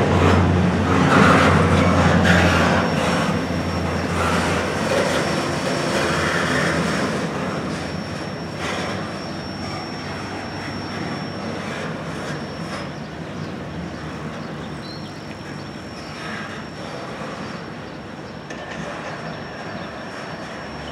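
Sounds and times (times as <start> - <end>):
freight train rolling over rails: 0.0 - 20.9.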